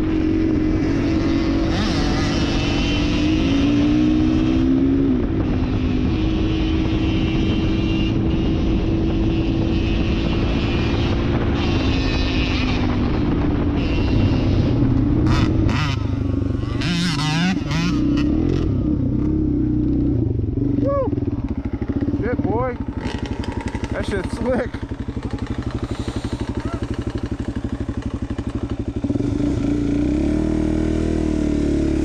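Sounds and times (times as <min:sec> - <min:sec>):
dirt bike engine: 0:00.0 - 0:32.0.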